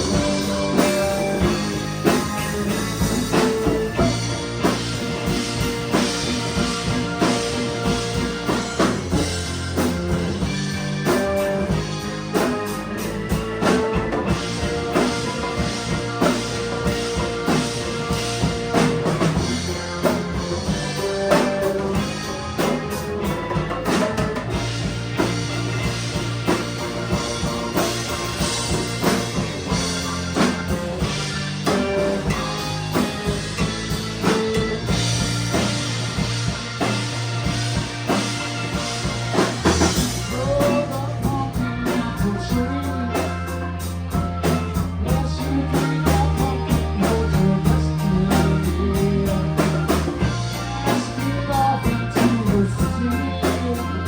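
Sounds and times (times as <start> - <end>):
drum kit steady beat: 0.0 - 54.0
electric bass and guitar: 0.0 - 54.0.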